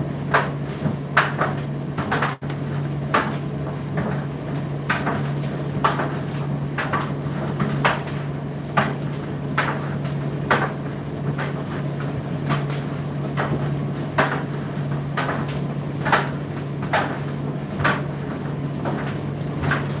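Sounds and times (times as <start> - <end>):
tumble dryer motor hum: 0.0 - 20.0.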